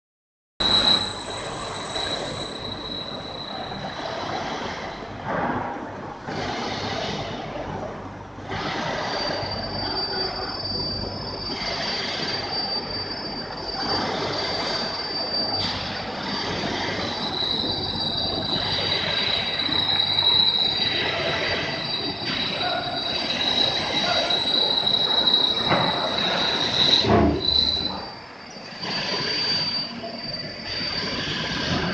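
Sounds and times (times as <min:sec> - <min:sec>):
high-pitched whine: 0:00.6 - 0:05.2, 0:08.4 - 0:31.9.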